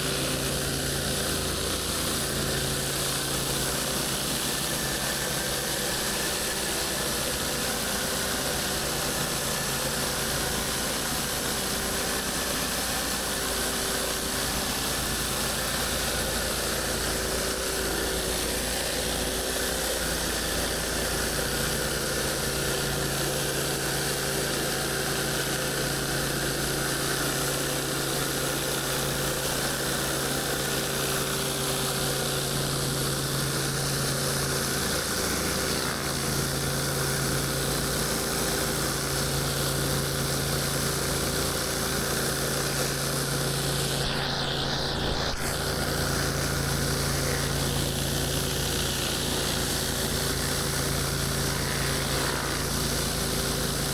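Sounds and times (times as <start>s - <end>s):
pressure washer engine humming: 0.0s - 53.9s
water spraying on concrete: 0.0s - 53.9s.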